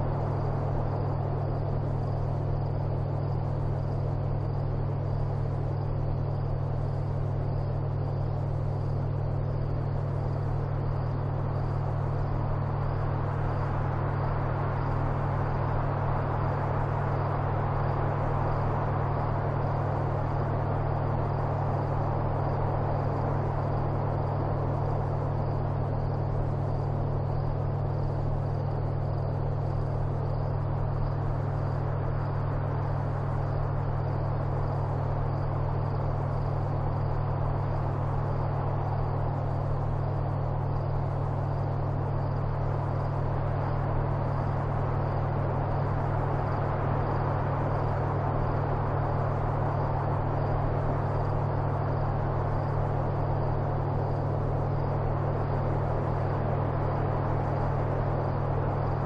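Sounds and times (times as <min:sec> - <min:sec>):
constant hiss: 0:00.0 - 0:59.0
steady low hum: 0:00.0 - 0:59.0.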